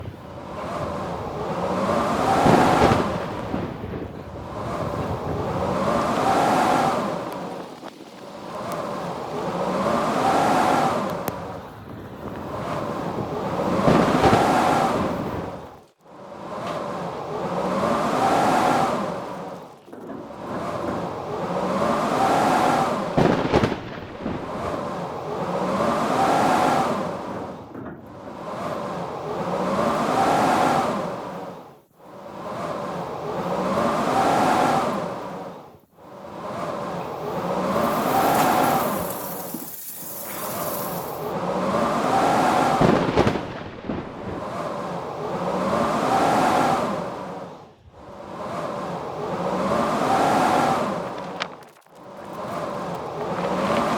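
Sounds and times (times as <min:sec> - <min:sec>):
blizzard wind howling: 0:00.0 - 0:53.9.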